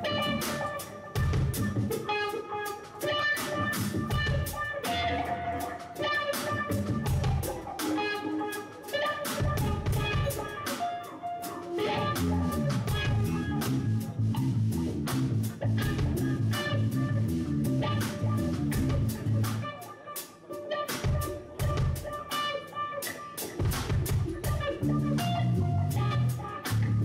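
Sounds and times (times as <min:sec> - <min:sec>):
drum kit: 0:00.0 - 0:27.0
electric guitars playing rock: 0:00.0 - 0:27.0.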